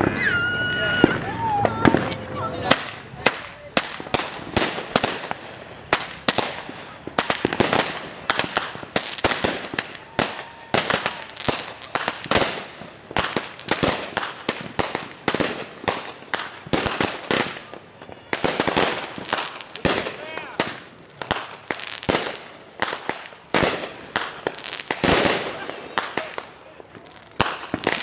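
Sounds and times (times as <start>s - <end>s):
fireworks banging: 0.0s - 28.0s.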